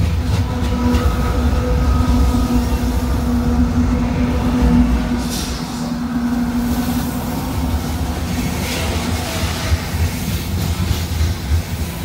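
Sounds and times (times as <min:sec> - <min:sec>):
freight cars rumbling past: 0:00.0 - 0:09.9
diesel locomotive engine drone: 0:00.0 - 0:12.0.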